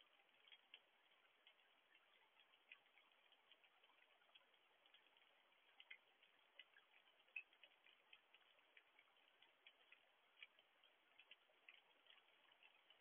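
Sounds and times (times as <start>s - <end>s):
raindrops ticking: 0.0s - 13.0s
soft rain hiss: 0.0s - 13.0s.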